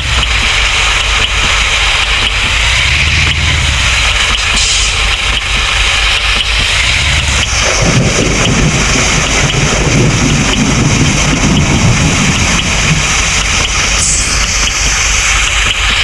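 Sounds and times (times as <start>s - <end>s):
heavy low rumble: 0.0s - 16.0s
vehicle engine running: 0.0s - 16.0s.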